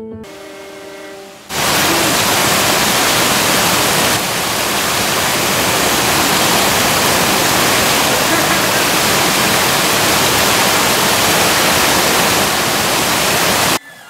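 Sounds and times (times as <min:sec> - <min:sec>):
fountain water splashing: 0:01.5 - 0:13.8.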